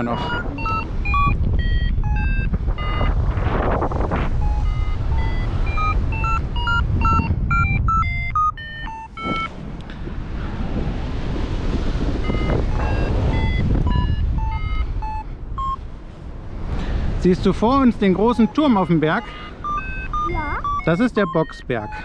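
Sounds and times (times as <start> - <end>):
variometer beeping: 0.0 - 9.5, 12.2 - 15.8, 17.4 - 22.0
wind buffeting microphone: 0.0 - 20.9.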